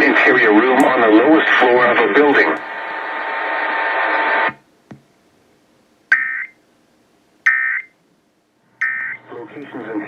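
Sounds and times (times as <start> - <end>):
broadcast static hiss: 0.0 - 10.0.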